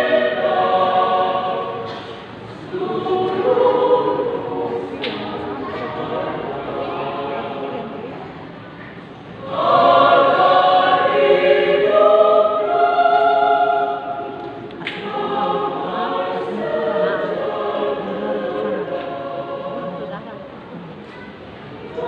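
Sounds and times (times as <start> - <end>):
choir singing sustained chords: 0.0 - 8.6, 9.2 - 21.0, 21.7 - 22.0.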